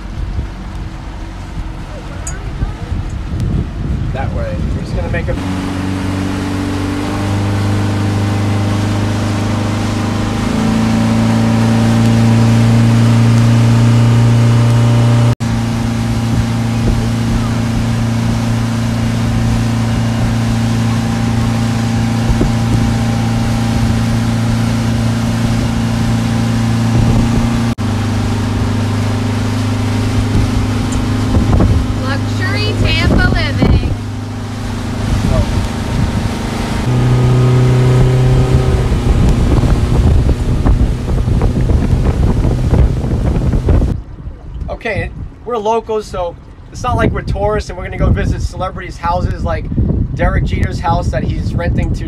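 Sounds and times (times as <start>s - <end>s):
outboard motor droning: 0.0s - 48.8s.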